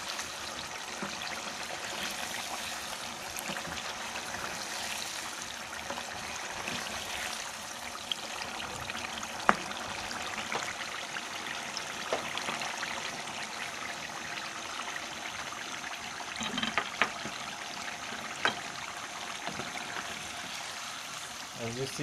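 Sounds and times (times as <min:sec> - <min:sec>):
liver sizzling in oil: 0:00.0 - 0:22.0.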